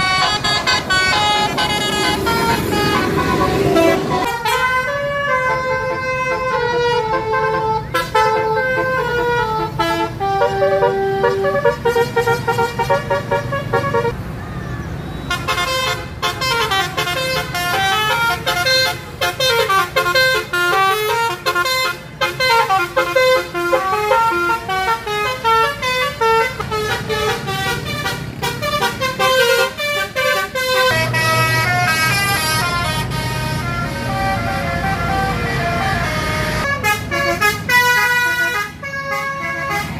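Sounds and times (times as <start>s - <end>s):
melodic bus horns playing a tune: 0.0s - 14.3s, 15.1s - 39.9s.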